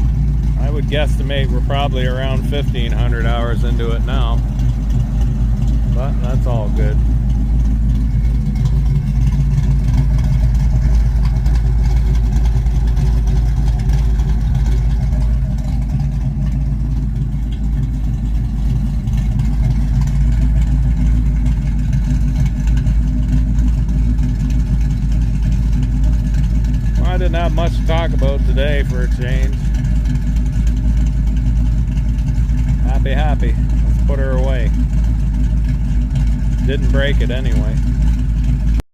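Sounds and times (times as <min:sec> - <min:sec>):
car engine running steadily: 0:00.0 - 0:38.8.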